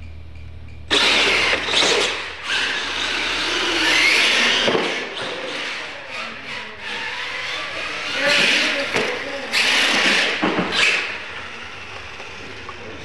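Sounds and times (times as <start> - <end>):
electric motors whining: 0.9 - 13.0.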